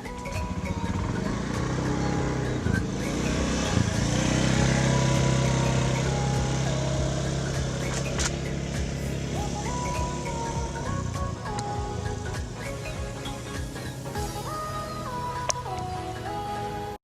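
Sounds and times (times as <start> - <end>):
motor humming: 0.0 - 16.9
background music: 0.0 - 17.0.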